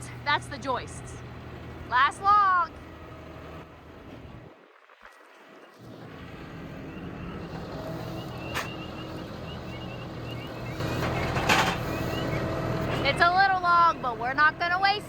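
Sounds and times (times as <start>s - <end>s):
engine running: 0.0s - 4.6s, 5.8s - 15.0s.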